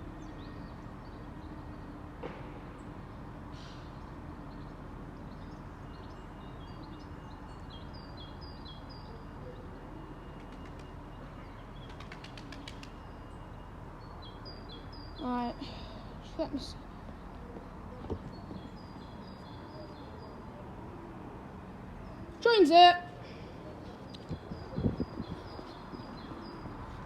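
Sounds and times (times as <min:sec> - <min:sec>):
low rumble of background noise: 0:00.0 - 0:27.0.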